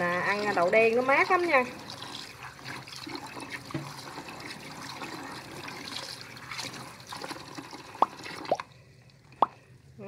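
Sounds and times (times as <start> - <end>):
hand stirring beans in water: 0.0 - 8.7
tap water pouring: 0.0 - 9.6.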